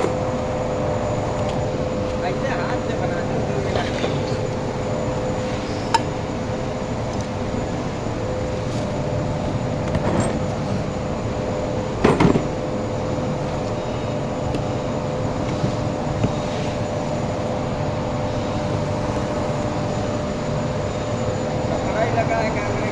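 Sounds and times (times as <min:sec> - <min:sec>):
workshop machinery humming: 0:00.0 - 0:22.9.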